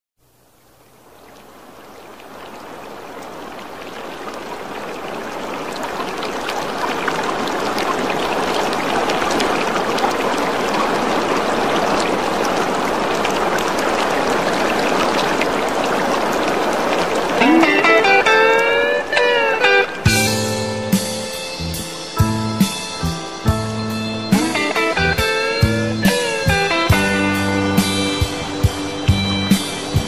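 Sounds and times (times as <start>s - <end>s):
rain falling: 0.2s - 30.0s.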